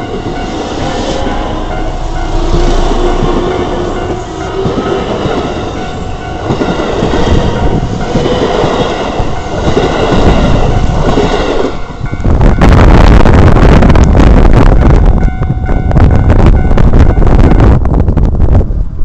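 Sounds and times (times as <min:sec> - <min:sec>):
train passing close by: 0:00.0 - 0:19.0.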